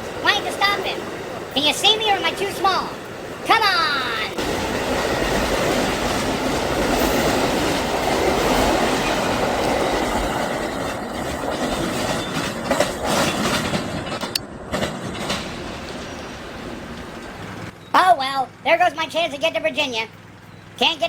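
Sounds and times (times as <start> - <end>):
train wheels clattering over rails: 0.0 - 17.9
train cars clicking: 0.0 - 21.0.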